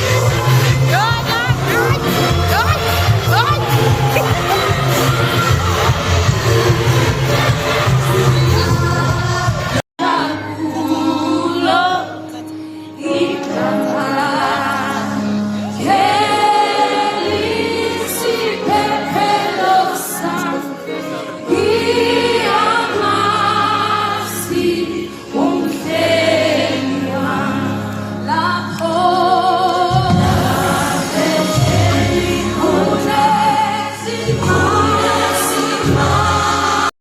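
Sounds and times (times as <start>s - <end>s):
choir singing gospel song: 0.0s - 36.9s.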